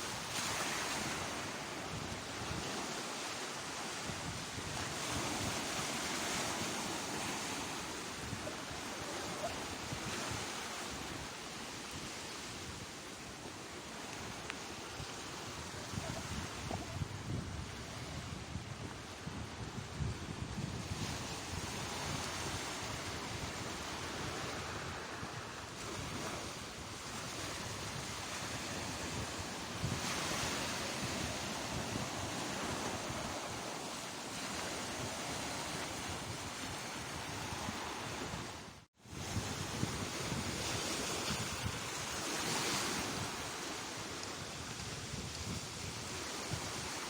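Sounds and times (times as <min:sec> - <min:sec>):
surf breaking on shore: 0:00.0 - 0:19.2, 0:20.6 - 0:47.0
wind buffeting microphone: 0:03.8 - 0:47.0.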